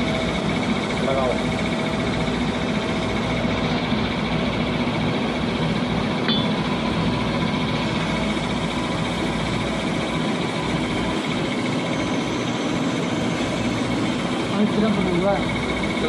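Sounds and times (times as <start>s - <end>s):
lathe machine hum: 0.0s - 16.0s.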